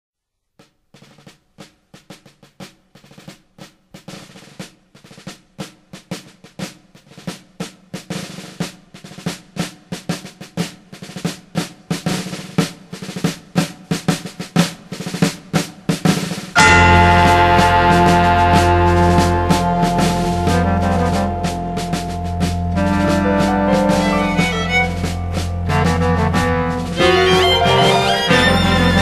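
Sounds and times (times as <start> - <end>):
snare drum marching cadence: 0.9 - 29.0.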